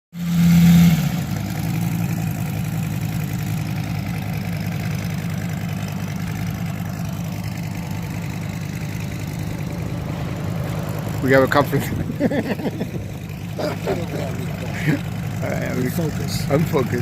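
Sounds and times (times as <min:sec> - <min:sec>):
engine idling: 0:00.2 - 0:17.0.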